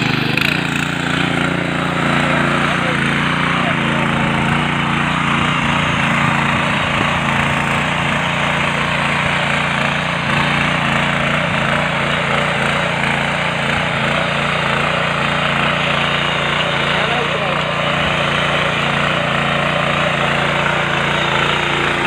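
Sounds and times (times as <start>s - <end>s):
power tiller engine running: 0.0s - 22.0s.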